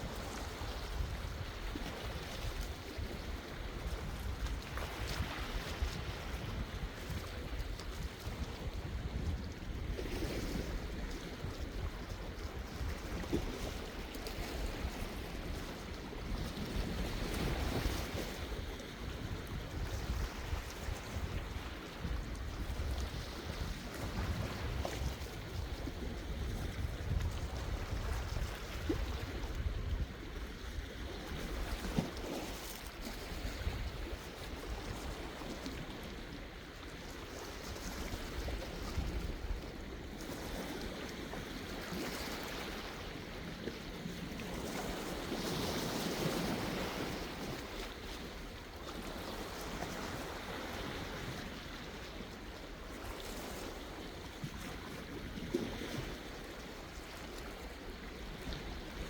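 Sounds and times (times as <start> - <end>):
sea waves washing on shore: 0.0 - 59.0
wind rumbling on microphone: 0.0 - 59.0.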